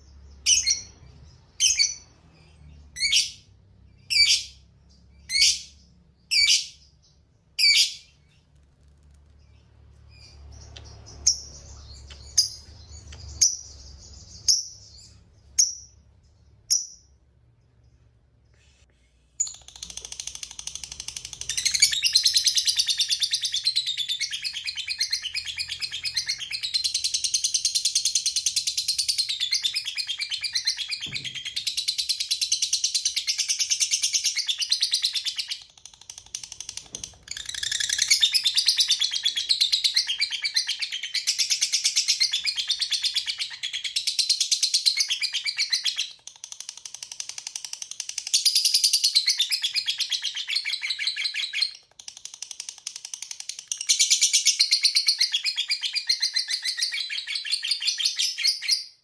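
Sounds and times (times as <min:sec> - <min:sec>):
lovebird chattering song: 0:00.0 - 0:07.0, 0:07.6 - 0:08.2, 0:09.4 - 0:16.0, 0:19.4 - 0:59.0.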